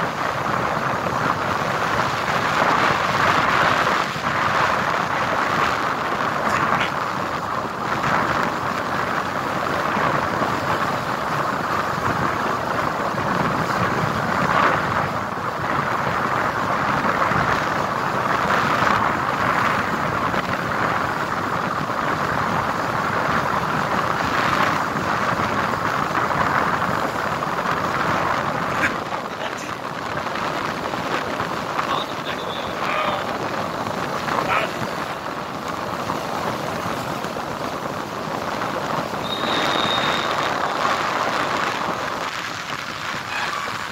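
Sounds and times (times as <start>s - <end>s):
river rushing in flood: 0.0s - 43.9s.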